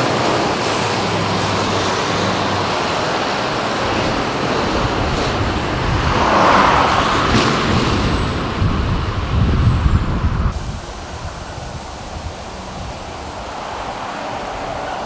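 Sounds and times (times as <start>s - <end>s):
vehicle passing by: 0.0s - 9.5s, 10.5s - 15.0s
motorway traffic passing: 0.0s - 15.0s.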